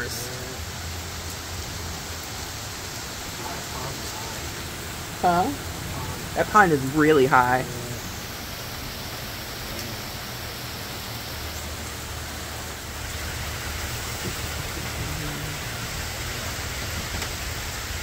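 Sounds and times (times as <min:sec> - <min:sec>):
heavy rain hissing: 0:00.0 - 0:18.0
low rumble: 0:00.0 - 0:18.0.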